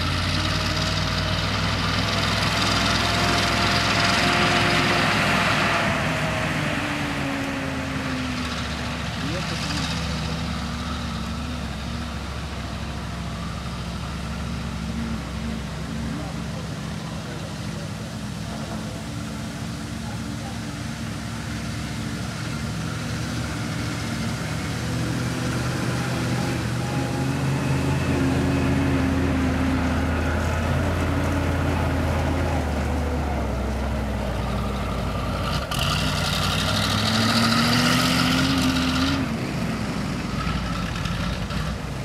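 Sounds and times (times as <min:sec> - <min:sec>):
armoured car engine driving past: 0:00.0 - 0:42.0.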